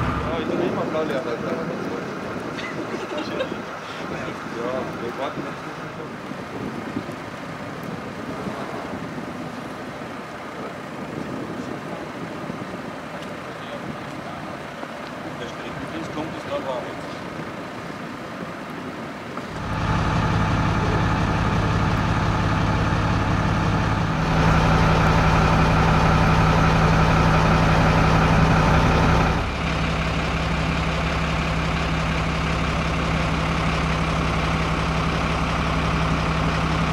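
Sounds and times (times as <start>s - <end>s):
fire engine idling: 0.0s - 36.9s.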